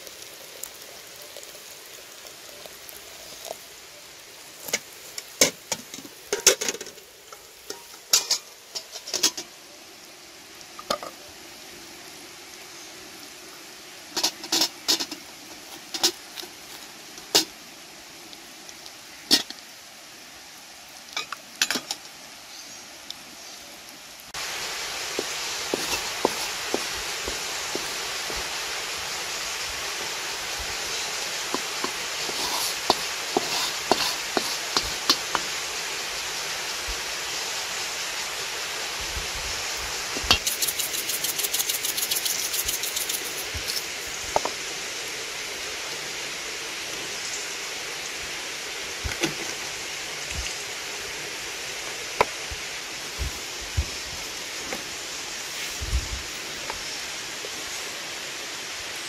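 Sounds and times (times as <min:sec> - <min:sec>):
running water: 0:00.0 - 0:11.3, 0:12.2 - 0:59.0.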